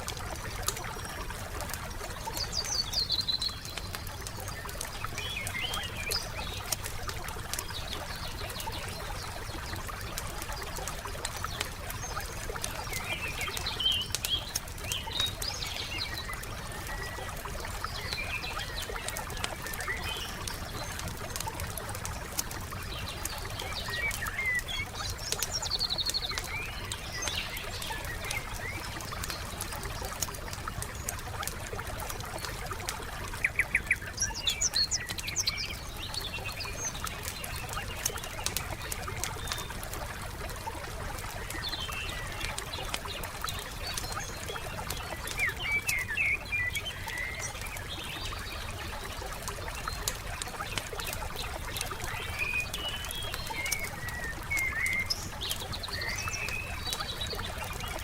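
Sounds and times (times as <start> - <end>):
forest birds chirping: 0.0 - 58.0
wood fire crackling and popping: 0.0 - 58.0.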